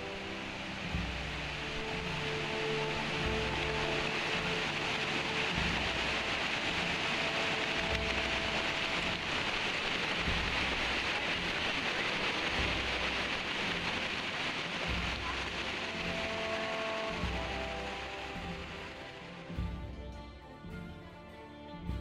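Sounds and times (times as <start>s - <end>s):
river rushing over stones: 0.0s - 19.8s.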